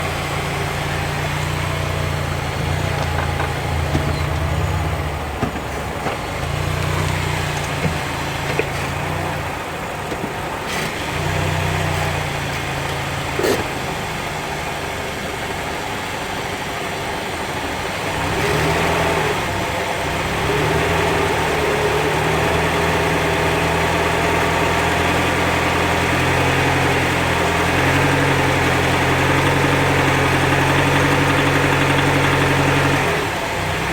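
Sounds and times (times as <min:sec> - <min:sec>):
car engine hum under load: 0:00.0 - 0:33.9.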